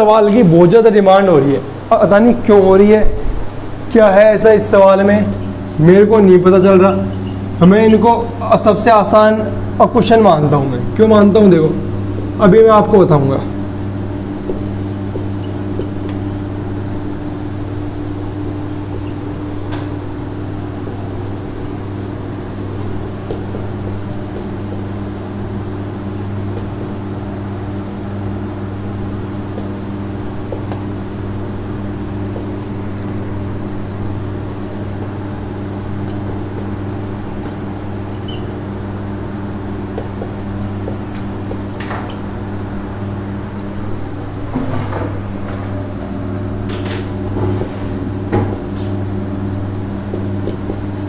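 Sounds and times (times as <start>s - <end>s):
fan humming: 0.0s - 51.0s.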